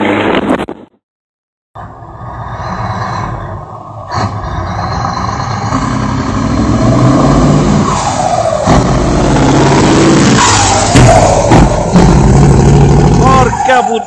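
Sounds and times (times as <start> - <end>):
truck engine accelerating: 1.8 - 14.0.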